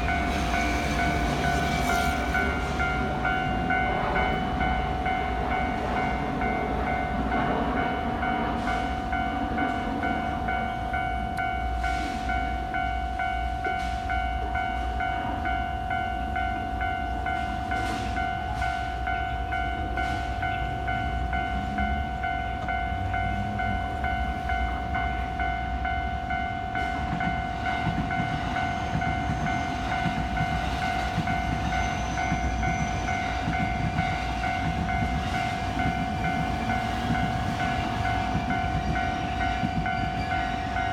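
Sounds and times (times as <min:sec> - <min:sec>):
level crossing alarm bell: 0:00.0 - 0:40.9
trains rumbling past: 0:00.0 - 0:40.9.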